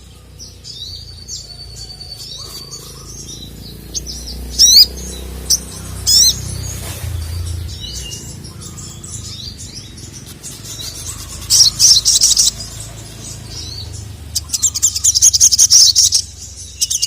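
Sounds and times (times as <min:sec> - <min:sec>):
bird chirps and trills: 0:00.0 - 0:17.0
loud sweeping bird calls: 0:00.0 - 0:17.0.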